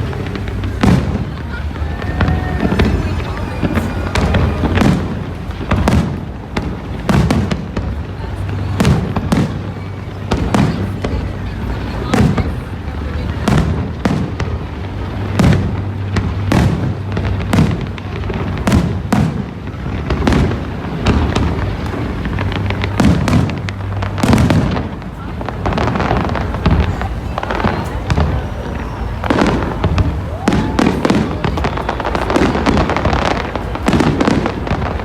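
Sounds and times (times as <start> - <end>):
fireworks bangs and booms: 0.0 - 35.0.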